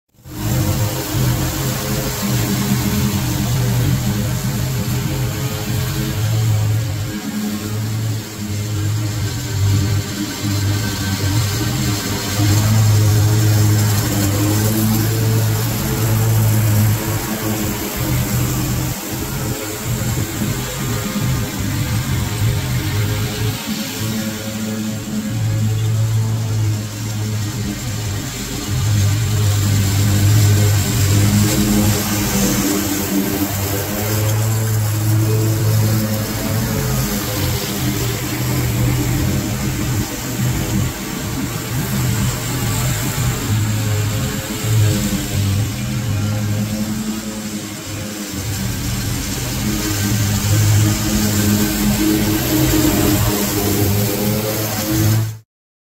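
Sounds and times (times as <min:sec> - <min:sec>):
lawn mower engine cutting grass: 0:00.3 - 0:55.3.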